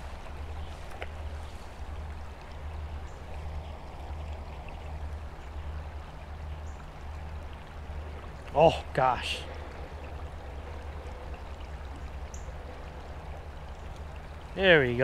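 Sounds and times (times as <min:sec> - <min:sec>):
creek water running over rocks: 0:00.0 - 0:15.0.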